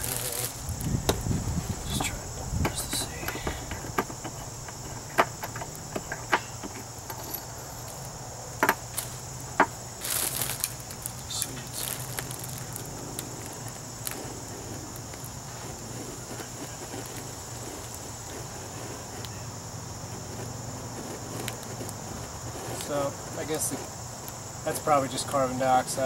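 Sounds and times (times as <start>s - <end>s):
foil balloon crinkling: 0.0s - 8.2s, 8.8s - 25.5s
high insect chirring: 0.0s - 26.0s.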